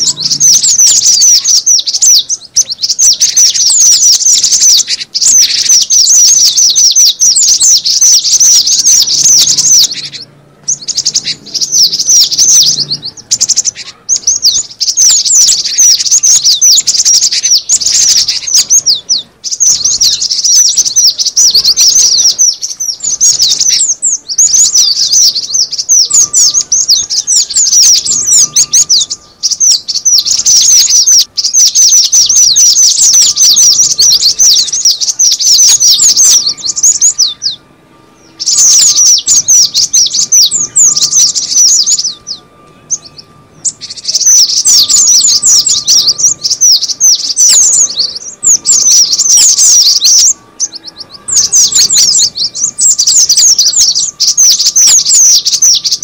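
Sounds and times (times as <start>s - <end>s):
bird high rapid chirps: 0.0s - 56.0s.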